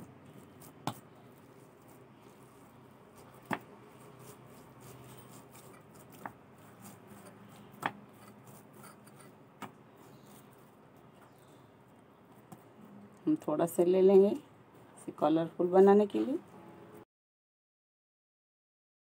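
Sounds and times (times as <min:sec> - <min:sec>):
hands kneading dough: 0:00.0 - 0:16.4.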